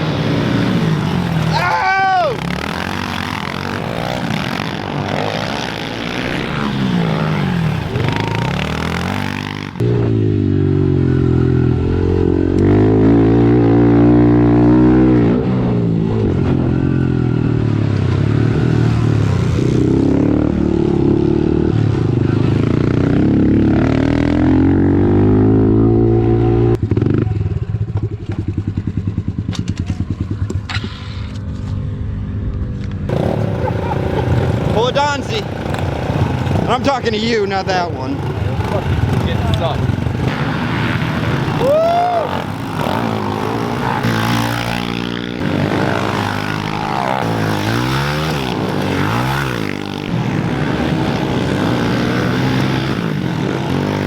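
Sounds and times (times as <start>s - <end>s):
pit bike engine revving: 0.0s - 27.4s, 33.1s - 54.0s
pit bikes racing: 0.0s - 54.0s.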